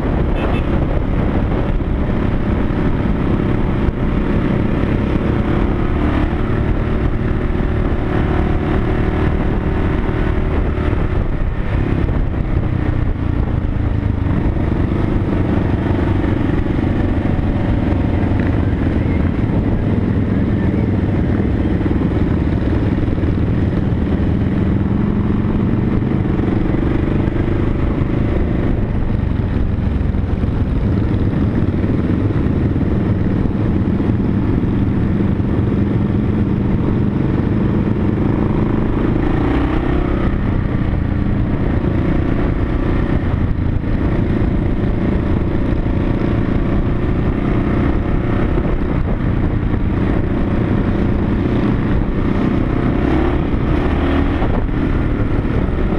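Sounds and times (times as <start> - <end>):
motorcycle engine cruising: 0.0 - 55.9
wind rush over microphone: 0.0 - 55.9.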